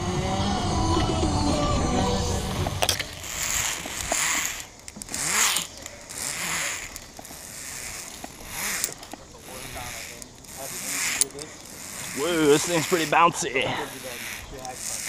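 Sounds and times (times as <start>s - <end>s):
harness gear rustling and scraping: 2.5s - 15.0s.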